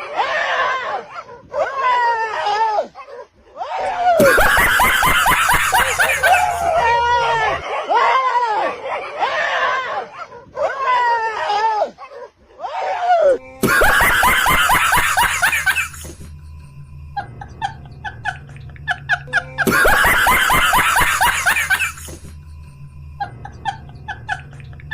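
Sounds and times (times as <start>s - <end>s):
bursts of laughter: 0.0s - 16.4s, 17.2s - 22.4s, 23.2s - 24.9s.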